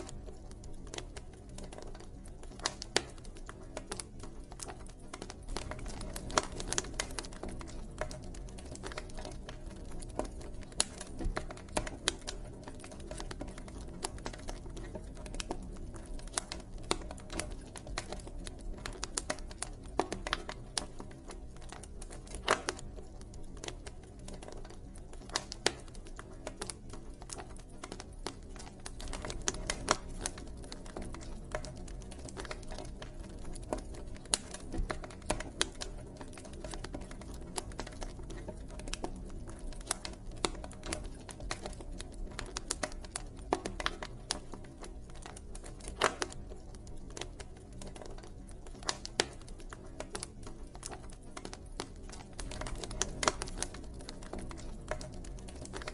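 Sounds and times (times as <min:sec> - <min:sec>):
low rumble of burning: 0:00.0 - 0:55.9
wood fire crackling: 0:00.0 - 0:55.9.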